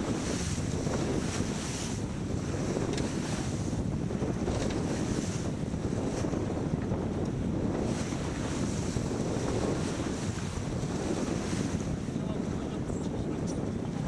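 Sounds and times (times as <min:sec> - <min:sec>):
water rushing past hull: 0:00.0 - 0:13.1
wind buffeting microphone: 0:00.0 - 0:14.0.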